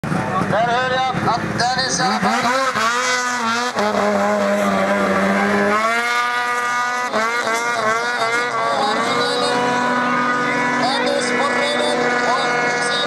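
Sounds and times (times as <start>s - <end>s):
jet ski engine: 0.1s - 13.0s
snowmobile engine high revs: 0.4s - 13.0s.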